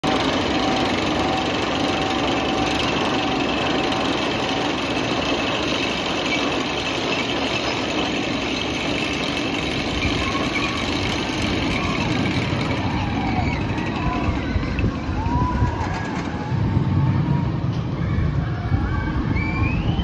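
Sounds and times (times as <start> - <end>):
roller coaster chain lift clatter: 0.0 - 20.0.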